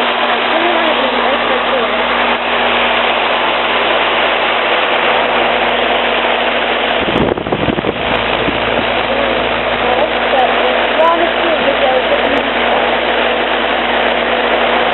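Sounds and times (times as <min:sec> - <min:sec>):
irregular low rumbling: 0:00.0 - 0:14.8
constant hum: 0:00.0 - 0:14.9
heat pump air rushing: 0:00.0 - 0:14.9.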